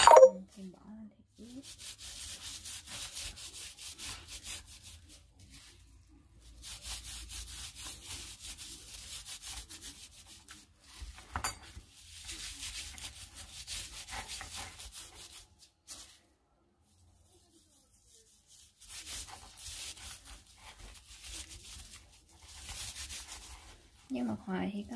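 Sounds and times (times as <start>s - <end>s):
hands rubbing seasoning into meat: 1.6s - 11.2s, 12.0s - 24.0s.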